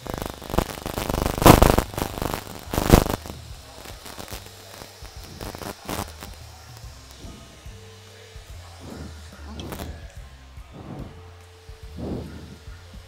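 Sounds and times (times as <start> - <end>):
aerosol spray hissing: 0.0 - 13.0.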